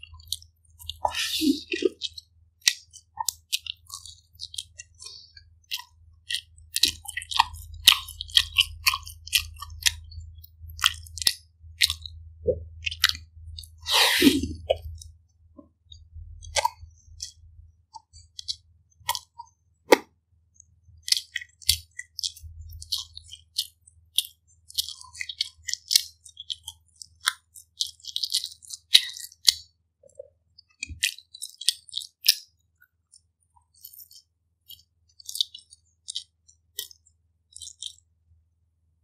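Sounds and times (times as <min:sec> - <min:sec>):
chewing with crunches: 0:00.0 - 0:15.2, 0:15.9 - 0:19.6, 0:20.6 - 0:38.2.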